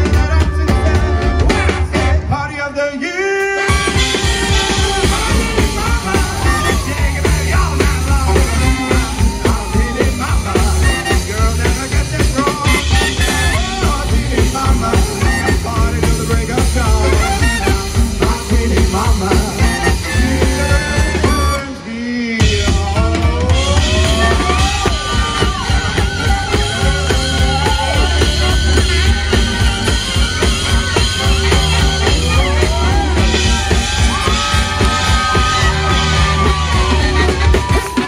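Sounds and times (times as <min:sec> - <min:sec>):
swing band playing: 0:00.0 - 0:38.0.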